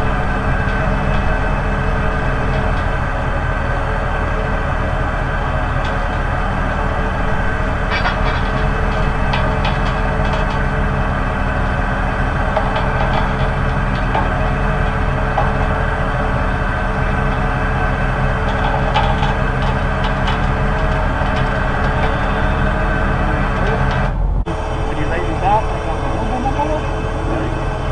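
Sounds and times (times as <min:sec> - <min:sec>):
rig engine running: 0:00.0 - 0:27.9.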